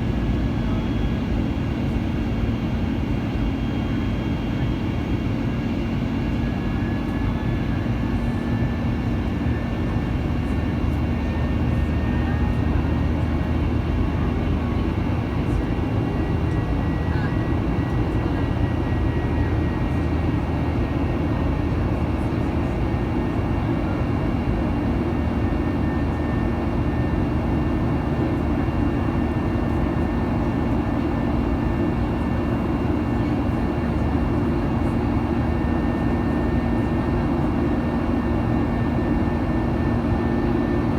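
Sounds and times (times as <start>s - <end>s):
airplane cabin jet engine roar: 0.0s - 40.9s.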